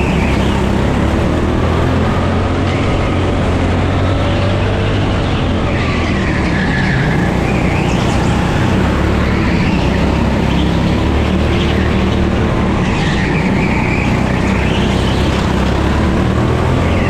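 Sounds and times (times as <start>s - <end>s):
go-kart engine running hard: 0.0s - 17.0s
wind and tyre noise: 0.0s - 17.0s.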